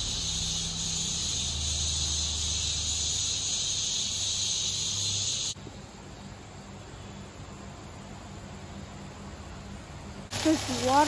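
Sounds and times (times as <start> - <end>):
high-pitched insect chorus: 0.0 - 8.9, 10.3 - 11.0.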